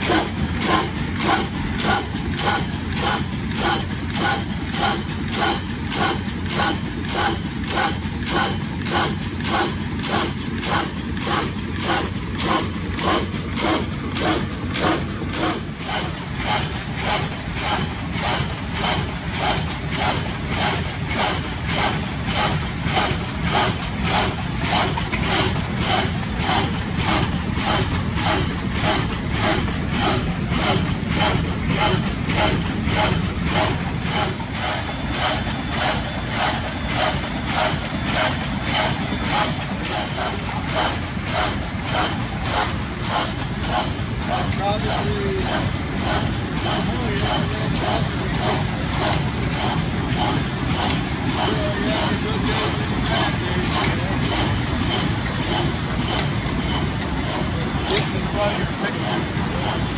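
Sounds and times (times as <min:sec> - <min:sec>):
low mechanical hum: 0:00.0 - 0:59.9
rhythmic machine clatter: 0:00.0 - 0:59.9.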